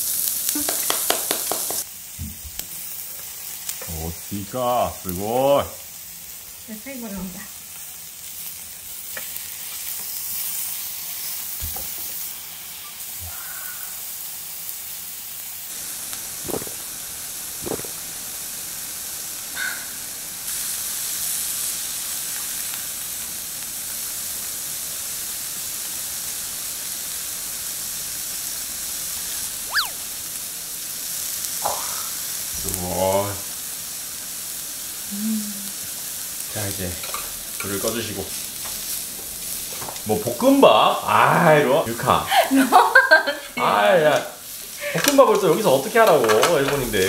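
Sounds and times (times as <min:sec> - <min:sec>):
meat sizzling on a grill plate: 0:00.0 - 0:47.0.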